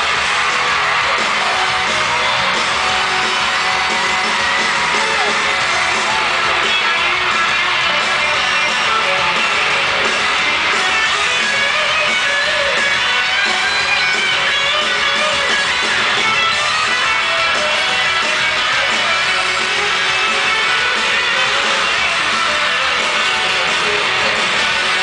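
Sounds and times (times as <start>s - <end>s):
drums: 0.0s - 25.0s
live pop-rock band playing: 0.0s - 25.0s
strummed electric guitar: 0.0s - 25.0s.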